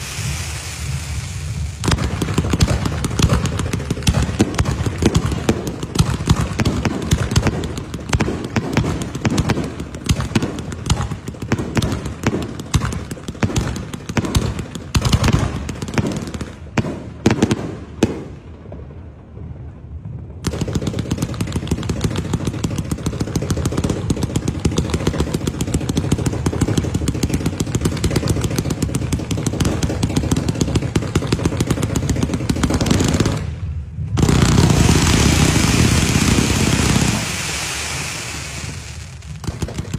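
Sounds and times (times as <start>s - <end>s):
fireworks banging and crackling: 0.0s - 39.9s.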